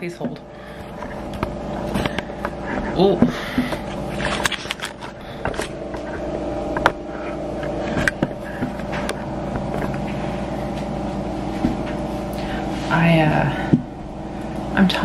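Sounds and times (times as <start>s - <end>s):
appliance machine hum: 0.0s - 15.0s.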